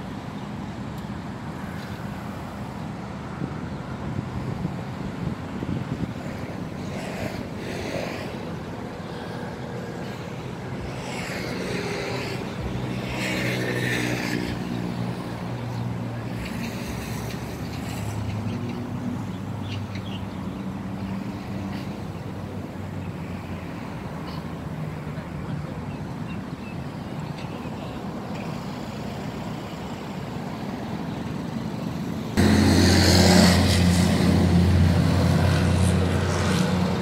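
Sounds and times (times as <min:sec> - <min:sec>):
vehicle engines humming: 0:00.0 - 0:37.0
vehicles passing by: 0:00.0 - 0:37.0.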